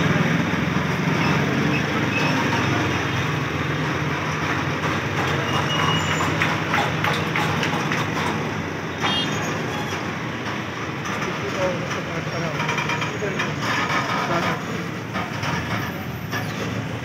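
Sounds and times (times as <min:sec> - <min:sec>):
diesel truck engine running: 0:00.0 - 0:17.0
street noise: 0:00.0 - 0:17.0.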